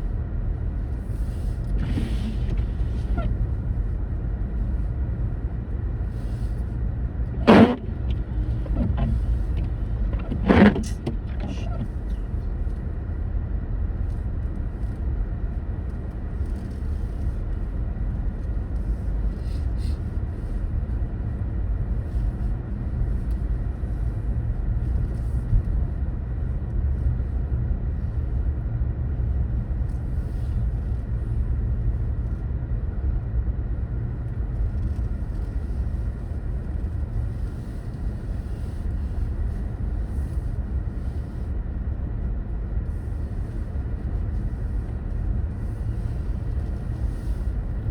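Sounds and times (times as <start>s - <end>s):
car road and engine rumble: 0.0s - 47.9s.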